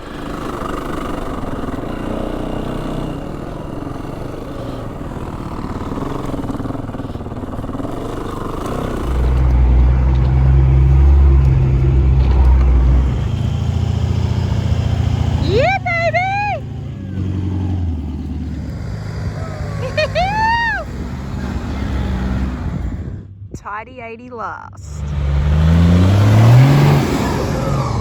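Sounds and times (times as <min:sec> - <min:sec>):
motorbike engine running: 0:00.0 - 0:23.5.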